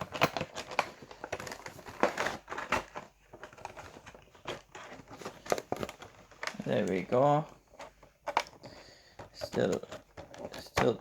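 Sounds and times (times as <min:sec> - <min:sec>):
plastic and cardboard crackling: 0:00.0 - 0:11.0.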